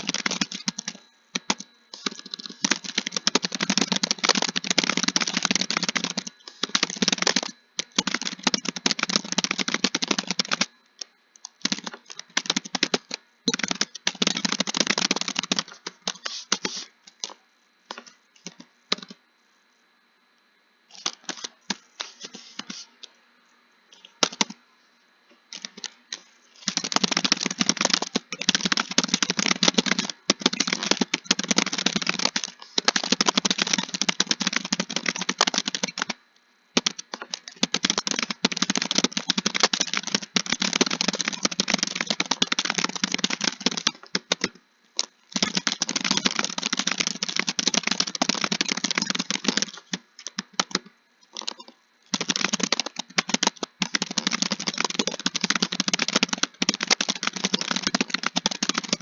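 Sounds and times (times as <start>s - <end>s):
keyboard typing: 0.0s - 19.2s, 20.9s - 23.1s, 23.9s - 24.6s, 25.5s - 36.2s, 36.8s - 59.0s.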